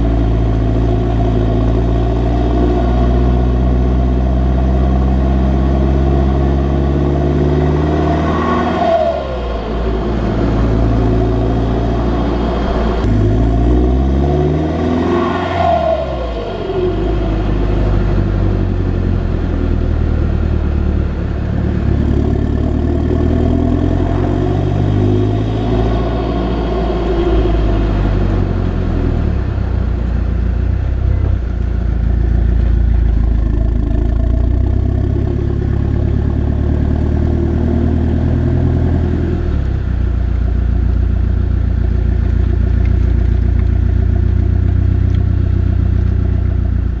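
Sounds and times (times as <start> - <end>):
diesel engine revving: 0.0 - 47.0.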